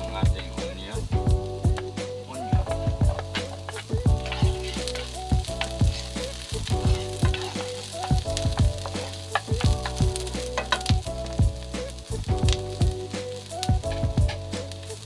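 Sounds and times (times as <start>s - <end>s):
background music with steady beat: 0.0s - 15.0s
garlic and onion sizzling in oil: 0.0s - 15.0s
stirring in a pan: 0.0s - 15.0s.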